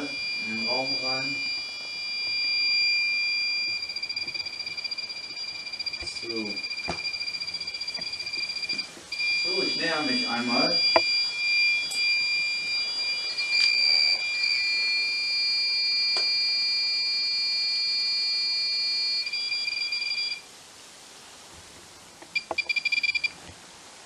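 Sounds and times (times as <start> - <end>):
high-pitched electronic alarm tone: 0.0 - 20.4.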